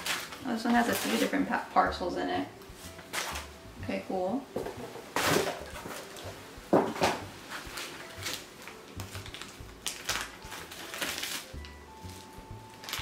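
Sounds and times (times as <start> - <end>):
plastic packaging rustling: 0.0 - 1.6, 2.8 - 3.5, 4.6 - 13.0.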